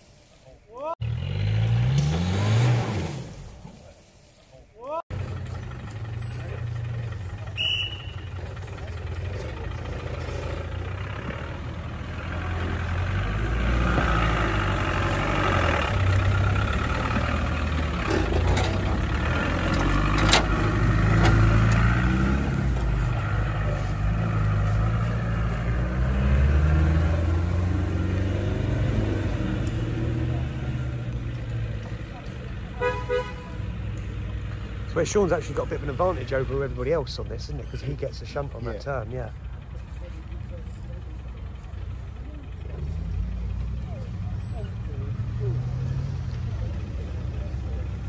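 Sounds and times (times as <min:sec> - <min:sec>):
car engine revving: 0:01.0 - 0:03.6, 0:05.1 - 0:48.0.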